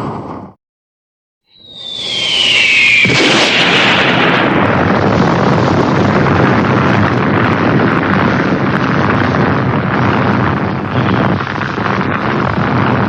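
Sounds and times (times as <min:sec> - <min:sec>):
explosion roar with crackling: 0:01.6 - 0:13.0.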